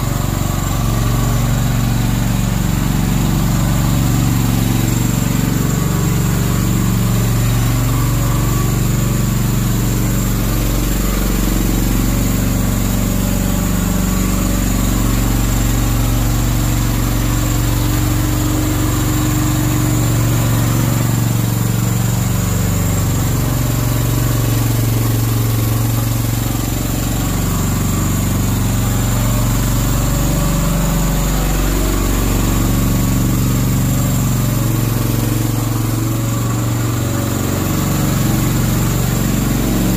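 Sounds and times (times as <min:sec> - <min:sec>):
mini dumper engine running: 0:00.0 - 0:39.9.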